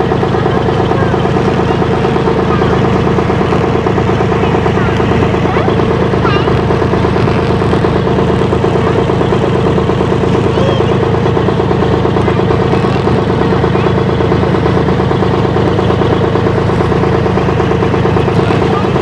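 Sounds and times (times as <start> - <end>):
ferry engine running: 0.0 - 19.0.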